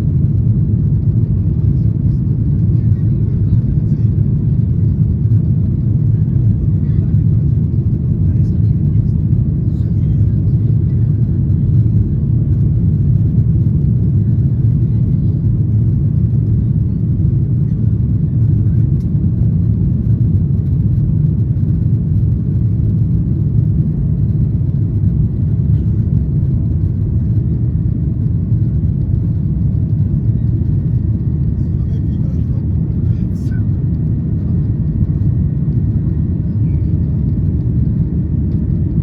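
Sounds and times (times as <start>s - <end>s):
jet engines rumbling in cabin: 0.0s - 39.0s.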